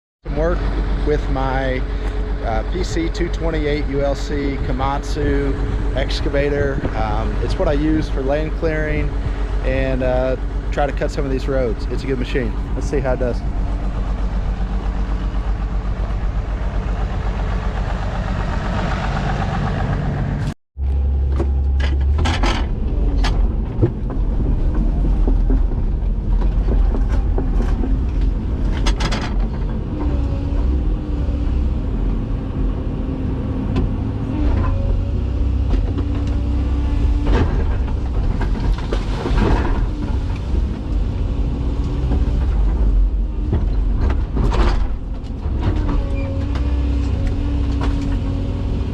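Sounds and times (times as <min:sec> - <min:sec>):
excavator engine rumbling: 0:00.2 - 0:48.9.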